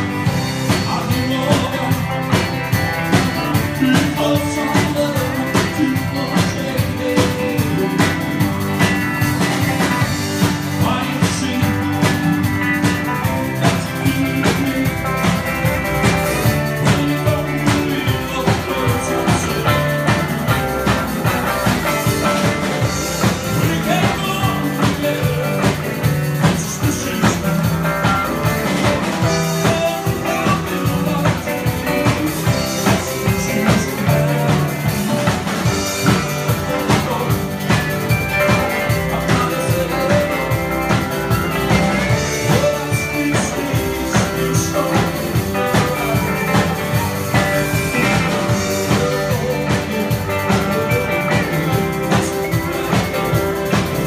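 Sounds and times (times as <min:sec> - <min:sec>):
drum kit: 0:00.0 - 0:54.0
electric guitars: 0:00.0 - 0:54.0
upright bass: 0:00.0 - 0:54.0
lead vocal singing: 0:00.1 - 0:09.0, 0:09.7 - 0:54.0.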